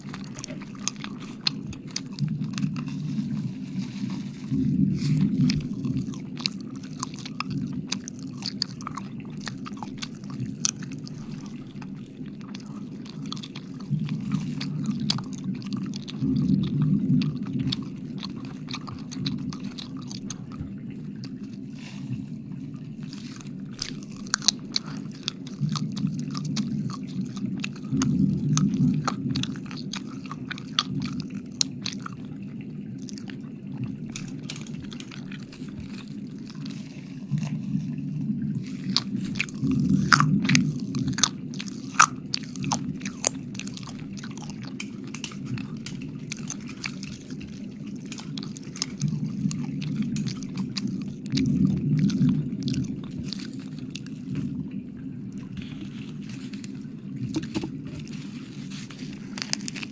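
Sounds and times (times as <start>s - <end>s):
wet mouth licking and smacking: 0.0s - 54.6s, 55.2s - 59.9s.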